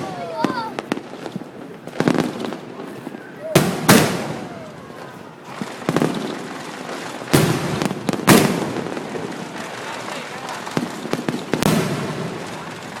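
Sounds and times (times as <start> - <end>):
fireworks bangs with rumble: 0.0 - 13.0
fireworks crackling: 0.0 - 13.0.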